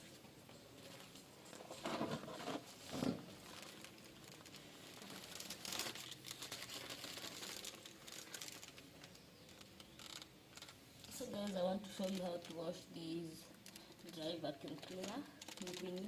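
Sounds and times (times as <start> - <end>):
rustling and crinkling handling: 0.0 - 16.0.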